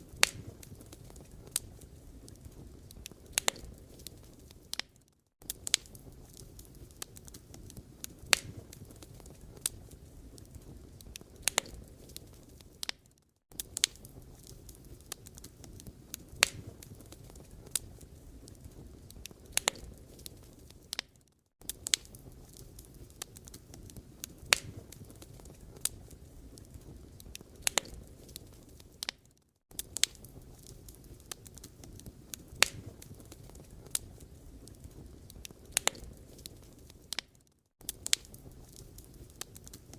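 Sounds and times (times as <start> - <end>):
low rumble of fire: 0.0 - 39.9
wood crackling and popping: 0.0 - 39.9.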